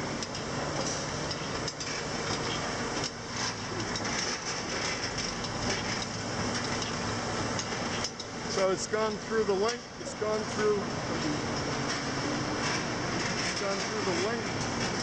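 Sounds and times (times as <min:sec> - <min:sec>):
rotary drying tube running: 0:00.0 - 0:15.0.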